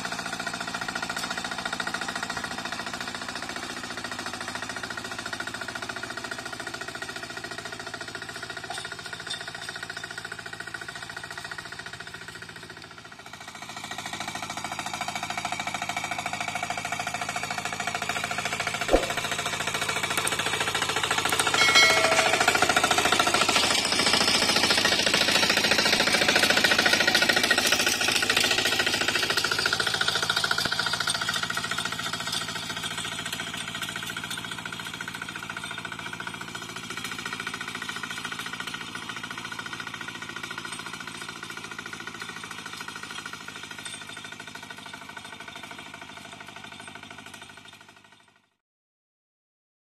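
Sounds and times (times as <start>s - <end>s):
diesel tractor engine knocking: 0.0s - 48.2s.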